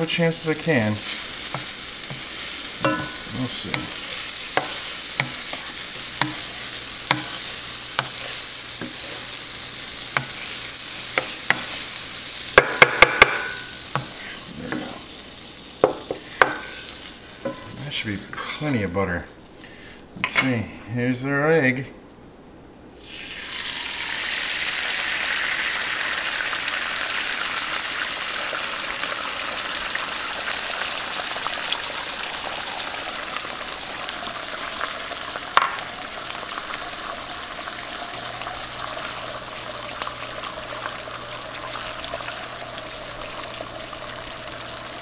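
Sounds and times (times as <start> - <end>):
egg sizzling in a pan: 0.0 - 20.2, 22.8 - 45.0.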